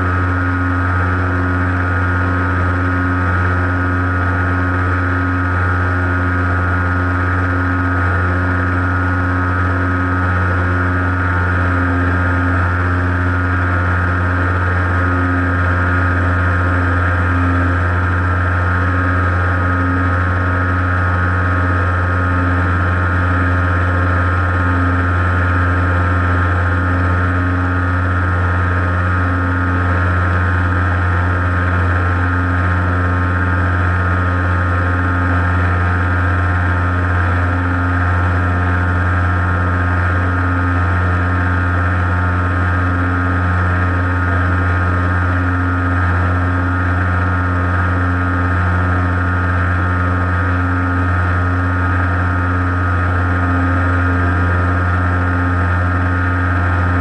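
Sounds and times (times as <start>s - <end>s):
model airplane motor drone: 0.0s - 57.0s.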